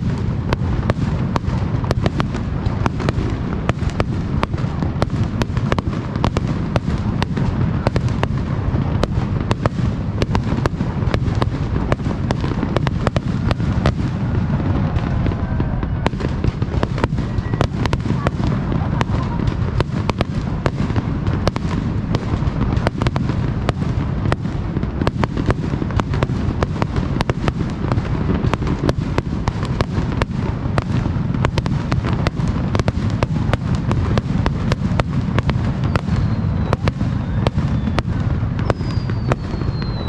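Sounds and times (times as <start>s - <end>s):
deep rumble: 0.0s - 40.0s
fireworks bangs and crackles: 0.0s - 40.0s.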